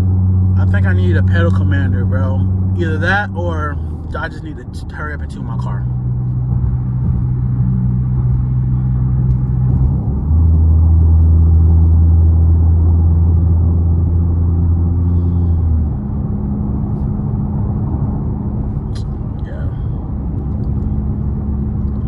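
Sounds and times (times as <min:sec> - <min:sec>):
car engine and exhaust droning: 0:00.0 - 0:22.0.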